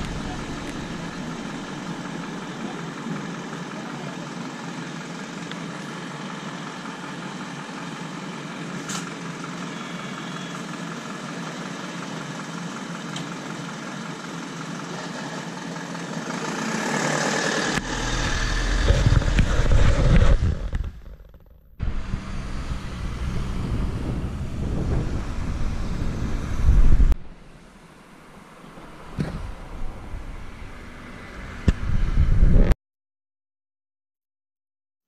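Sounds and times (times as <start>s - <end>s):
bus engine and cabin noise: 0.0s - 15.8s, 17.0s - 32.6s.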